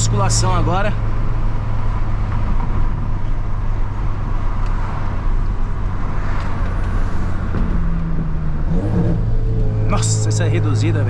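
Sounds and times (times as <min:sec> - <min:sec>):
low engine drone: 0:00.0 - 0:11.0
road noise: 0:00.0 - 0:11.0.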